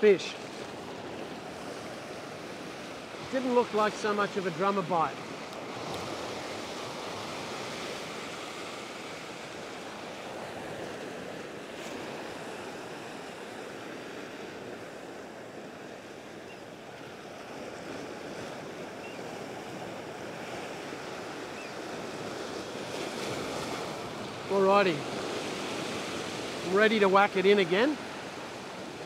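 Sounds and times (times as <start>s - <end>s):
waves breaking over rocks: 0.0s - 29.0s.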